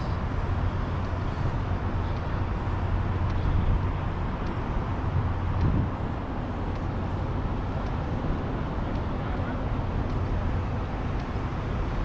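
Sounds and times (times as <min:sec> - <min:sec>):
city traffic: 0:00.0 - 0:12.0.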